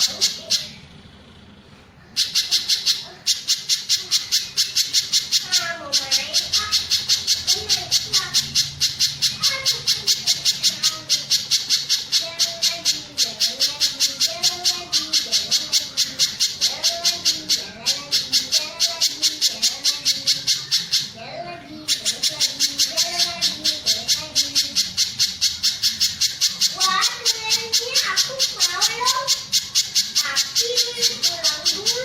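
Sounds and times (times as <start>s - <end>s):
bird calling in sharp high chips: 2.0s - 32.0s
lower warbling bird calls: 2.0s - 32.0s.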